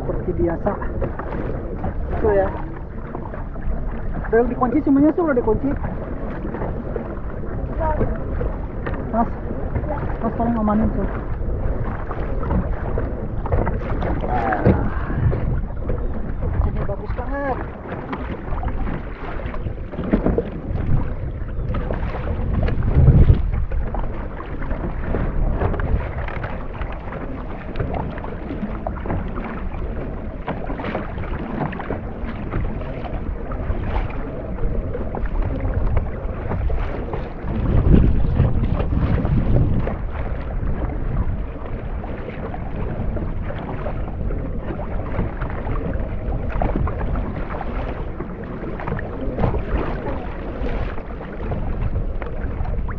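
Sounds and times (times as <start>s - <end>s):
water sloshing: 0.0s - 52.9s
wind rumbling on microphone: 0.0s - 52.9s.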